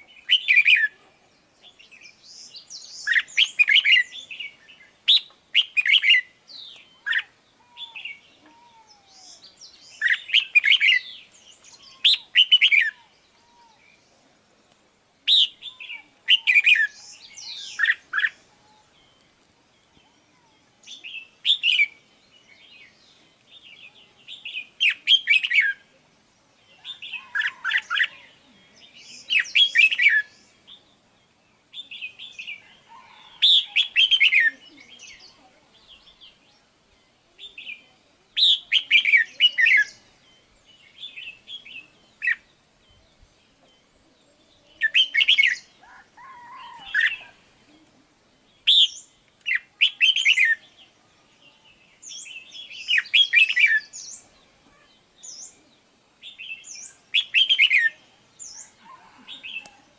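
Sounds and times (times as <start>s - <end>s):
bulbul singing: 0.0s - 14.2s, 15.2s - 25.9s, 26.5s - 47.8s, 48.4s - 59.8s.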